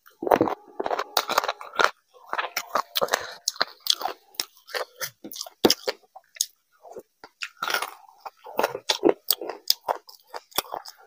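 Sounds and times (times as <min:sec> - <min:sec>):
close-miked chewing: 0:00.0 - 0:11.0.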